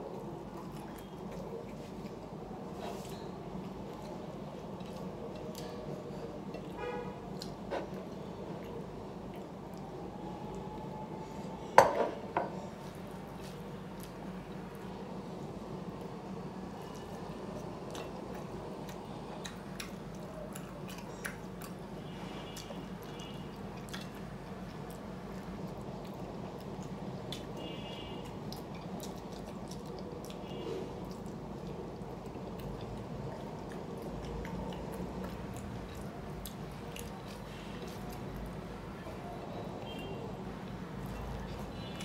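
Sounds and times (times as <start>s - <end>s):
person chewing food: 0.0s - 10.6s, 12.6s - 15.0s, 16.0s - 38.7s
steady background hum: 0.0s - 42.0s.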